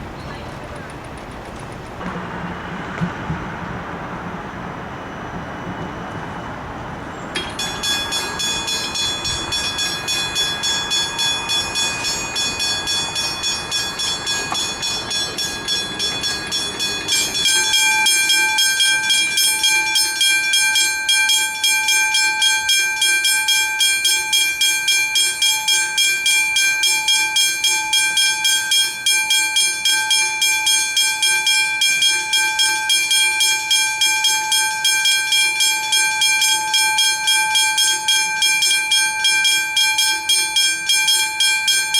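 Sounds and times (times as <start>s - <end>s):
level crossing bells ringing: 7.3s - 41.9s
lower-toned bell: 7.3s - 41.9s.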